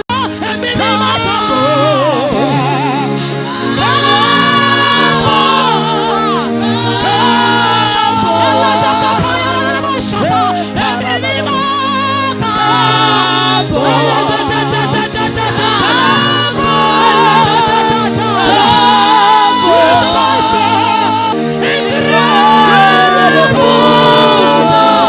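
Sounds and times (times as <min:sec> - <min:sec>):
group singing gospel: 0:00.0 - 0:25.0
sustained keyboard chords: 0:00.0 - 0:25.0.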